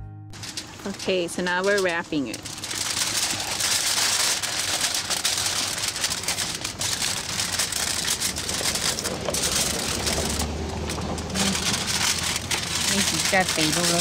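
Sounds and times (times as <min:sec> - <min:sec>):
foil and leaves crinkling: 0:00.4 - 0:14.0.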